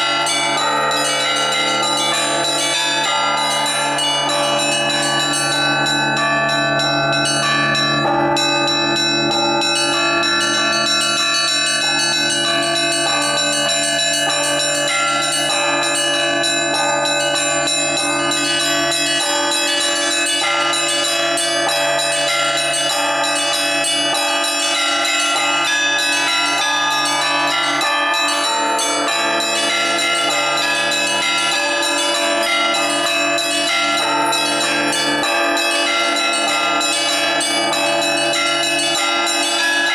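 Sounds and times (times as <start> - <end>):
large deep bells ringing: 0.0 - 39.9.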